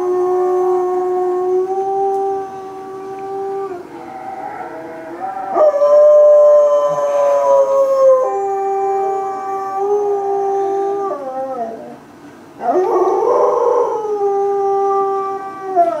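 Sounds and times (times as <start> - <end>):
dog howling: 0.0 - 12.0, 12.6 - 16.0.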